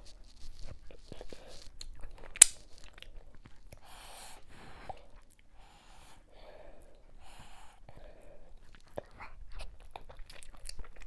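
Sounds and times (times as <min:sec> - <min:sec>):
chewing and mouth sounds: 0:00.4 - 0:05.5, 0:06.8 - 0:11.0.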